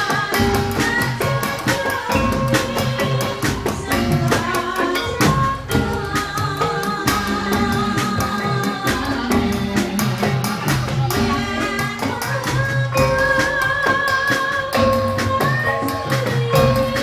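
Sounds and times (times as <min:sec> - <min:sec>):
drums and percussion: 0:00.0 - 0:17.0
person singing: 0:00.0 - 0:17.0
ringing metal tones: 0:00.1 - 0:09.6, 0:11.1 - 0:17.0.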